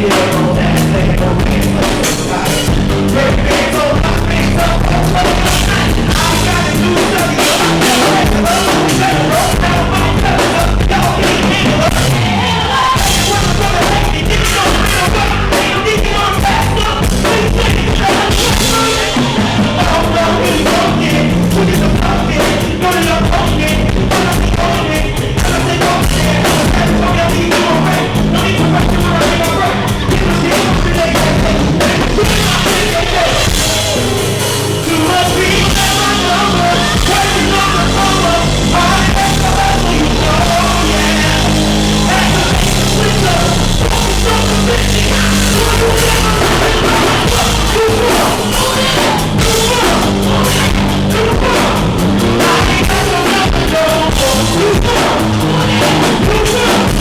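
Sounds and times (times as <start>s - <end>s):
drum kit: 0.0s - 57.0s
live rock band playing: 0.0s - 57.0s
person singing: 0.0s - 57.0s.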